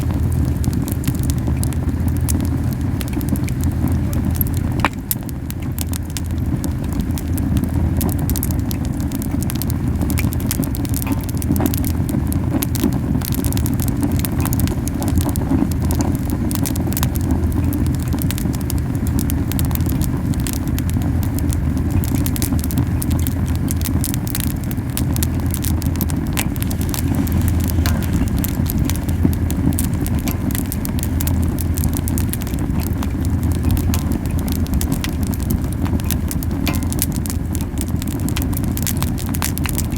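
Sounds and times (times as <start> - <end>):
burning wood crackling and popping: 0.0 - 39.9
campfire flames whooshing: 0.0 - 39.9.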